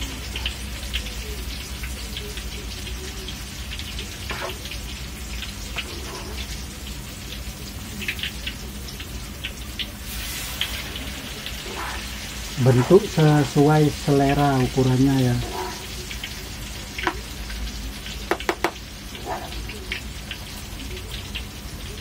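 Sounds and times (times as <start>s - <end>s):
oil sizzling in a wok: 0.0s - 22.0s.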